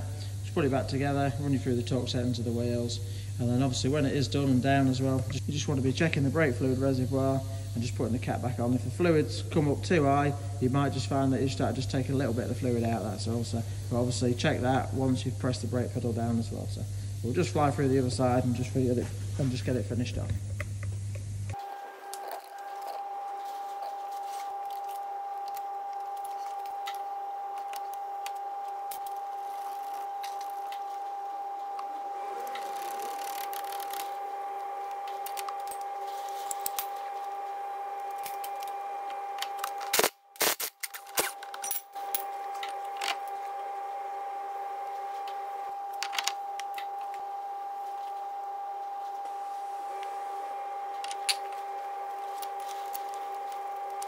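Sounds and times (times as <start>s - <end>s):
steady mid-pitched hum: 0.0s - 54.0s.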